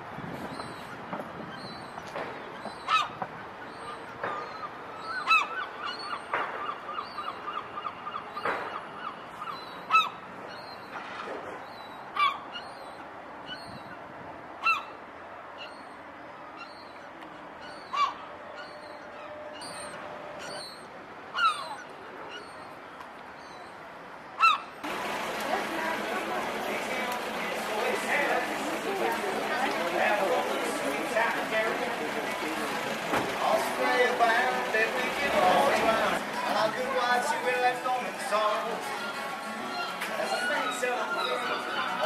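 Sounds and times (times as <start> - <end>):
gulls calling: 1.5 - 11.0, 15.6 - 22.8, 24.4 - 42.0.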